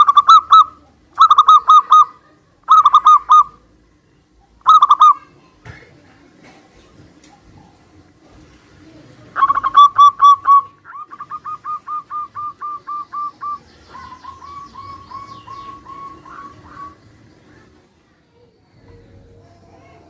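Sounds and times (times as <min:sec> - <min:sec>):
doves cooing: 0:00.0 - 0:03.8, 0:04.6 - 0:05.2, 0:06.2 - 0:18.0.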